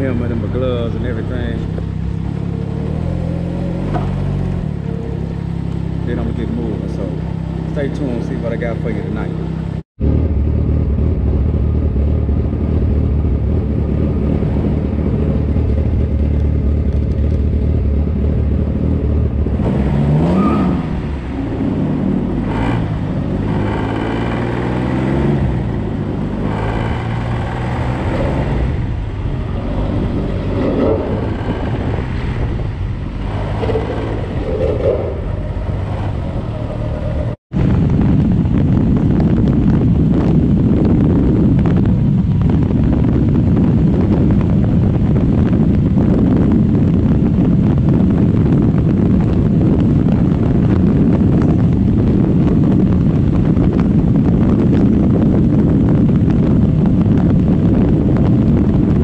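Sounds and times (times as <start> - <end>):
motorcycle engine idling and revving: 0.0 - 59.0
wind noise on microphone: 0.0 - 59.0.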